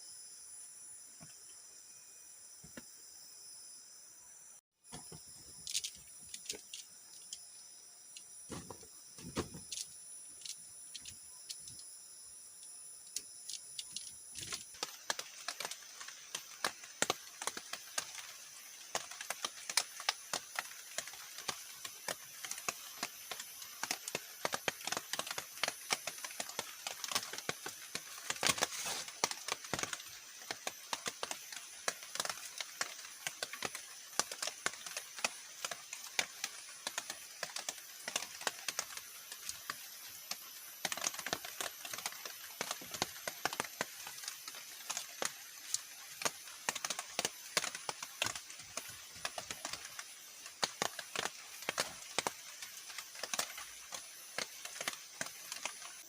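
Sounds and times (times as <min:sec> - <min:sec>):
insects buzzing: 0:00.0 - 0:56.0
crackling and clicking: 0:04.9 - 0:56.0.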